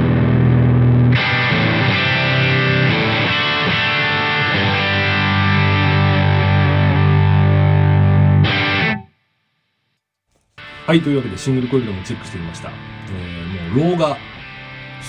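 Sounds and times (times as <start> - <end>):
overdriven electric guitar riff: 0.0 - 9.2, 10.5 - 15.0.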